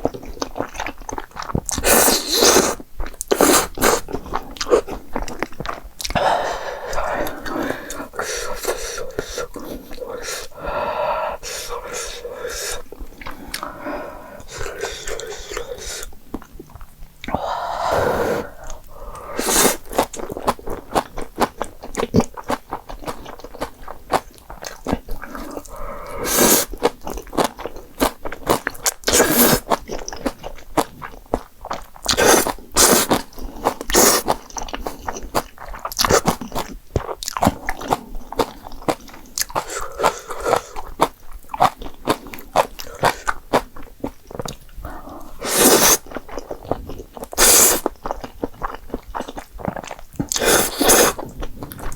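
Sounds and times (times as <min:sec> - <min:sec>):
person chewing noodles: 0:00.0 - 0:51.9.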